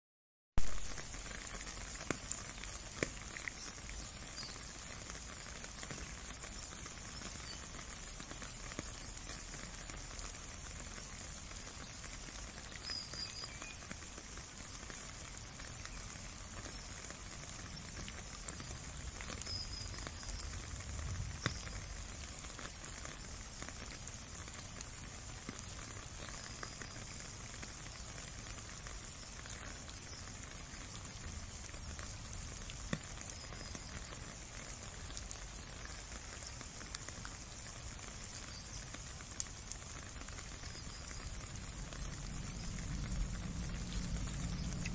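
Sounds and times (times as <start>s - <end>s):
rain on wet ground: 0.6s - 44.9s.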